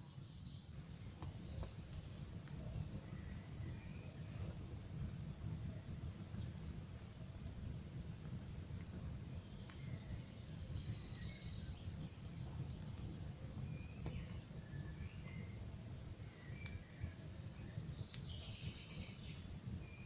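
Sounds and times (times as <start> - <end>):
campfire burning: 0.0 - 20.0
fire crackles: 0.0 - 20.0.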